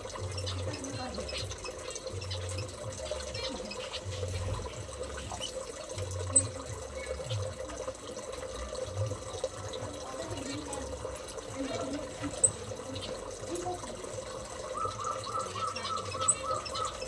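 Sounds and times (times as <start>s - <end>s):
water running and trickling: 0.0s - 17.0s.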